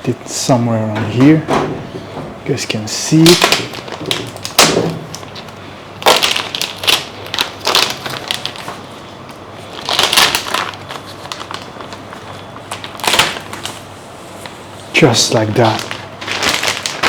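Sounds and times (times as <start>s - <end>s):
packaging being handled: 2.7s - 17.0s.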